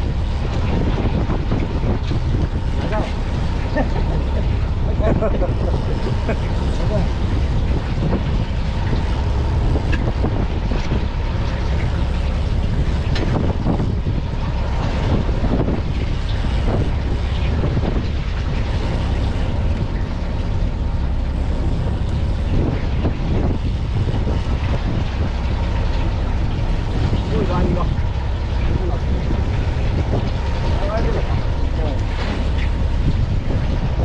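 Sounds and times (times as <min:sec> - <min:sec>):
boat engine running: 0:00.0 - 0:34.0
wind noise on microphone: 0:00.0 - 0:34.0.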